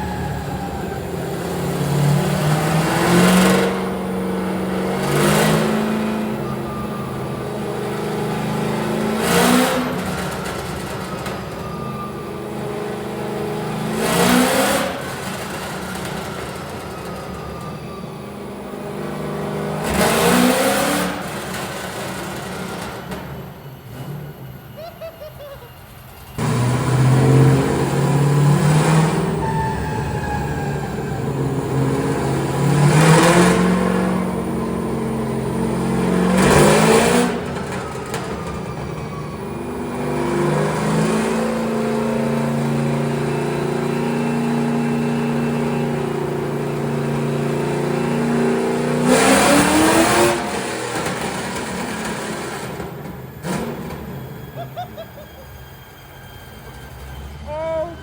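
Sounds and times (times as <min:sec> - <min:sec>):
car engine revving: 0:00.0 - 0:24.5, 0:26.1 - 0:55.1.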